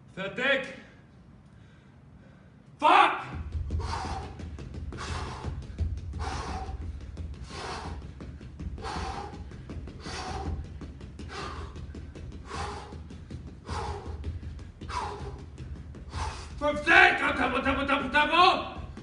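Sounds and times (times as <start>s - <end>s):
man breathing hard: 0.9s - 16.6s.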